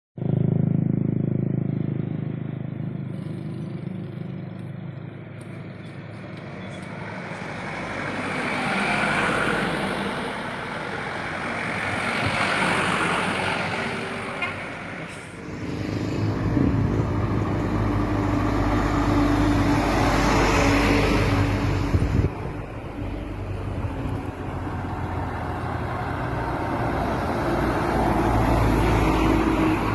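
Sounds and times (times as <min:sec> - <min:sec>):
heavy truck engines droning: 0:01.8 - 0:29.9.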